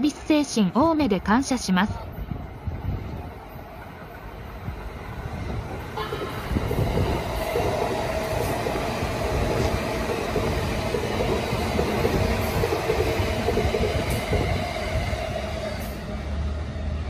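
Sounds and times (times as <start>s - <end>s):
electric train wheels on rails: 0.0s - 17.0s.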